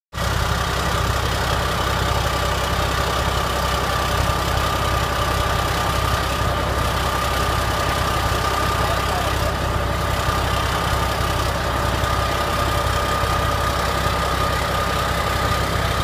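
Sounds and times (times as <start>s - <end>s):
diesel engine idling with whine: 0.1s - 16.0s.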